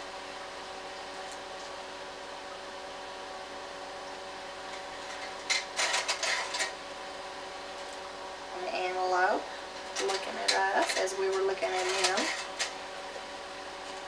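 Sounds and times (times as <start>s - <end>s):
projector cooling fan humming: 0.0s - 14.0s.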